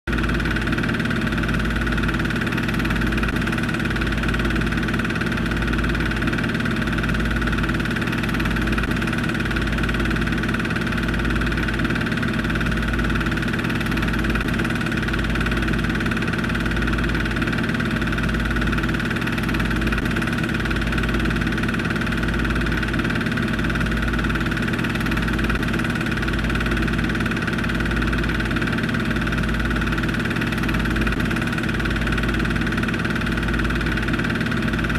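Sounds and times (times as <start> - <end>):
film projector motor hum: 0.1 - 34.9.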